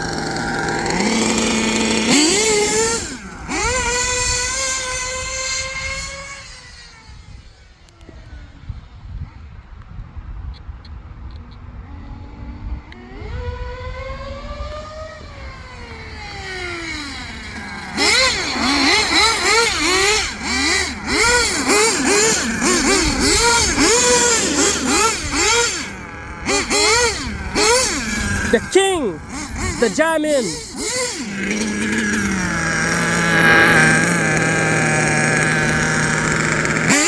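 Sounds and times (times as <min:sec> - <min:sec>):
rc truck engines revving: 0:00.0 - 0:09.5, 0:11.3 - 0:37.0.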